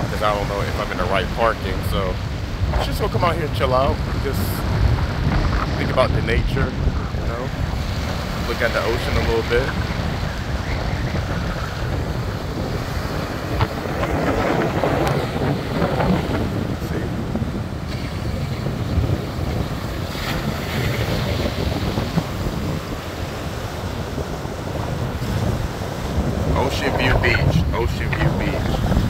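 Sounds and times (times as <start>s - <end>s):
waves breaking on beach: 0.0s - 29.0s
wind buffeting microphone: 0.0s - 29.0s.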